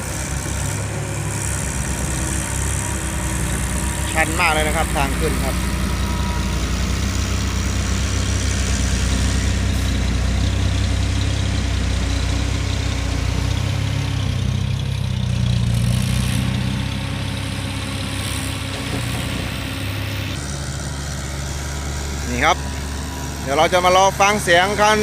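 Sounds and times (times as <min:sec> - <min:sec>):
truck diesel engine working hard: 0:00.0 - 0:25.0.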